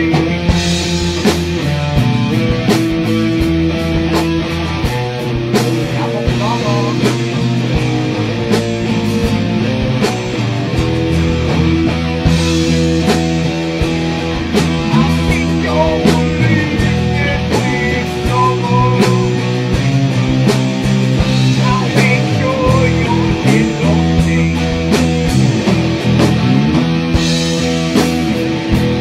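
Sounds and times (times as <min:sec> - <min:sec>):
rock music with guitar and drums: 0:00.0 - 0:29.0.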